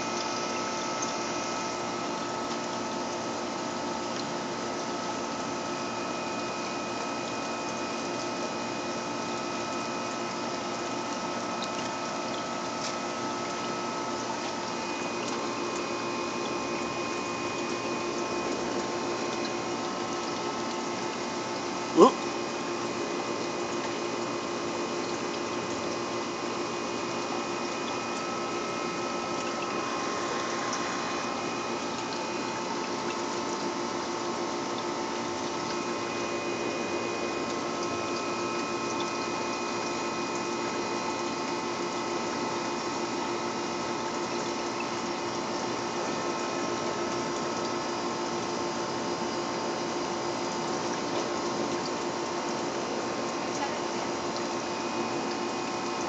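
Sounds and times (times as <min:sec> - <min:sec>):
aquarium filter hum: 0:00.0 - 0:56.0
water trickling and splashing: 0:00.0 - 0:56.0.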